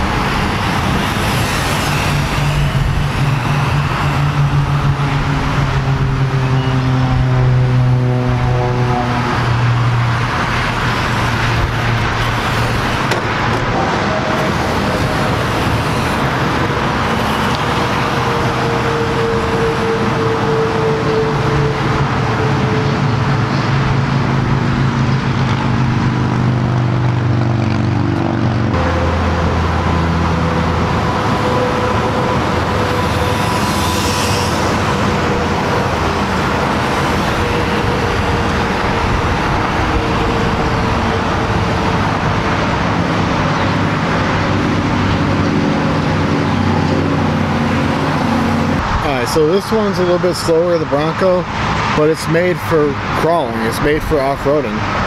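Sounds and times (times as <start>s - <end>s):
heavy vehicle engine drone: 0.0s - 55.0s
highway traffic noise: 0.0s - 55.0s.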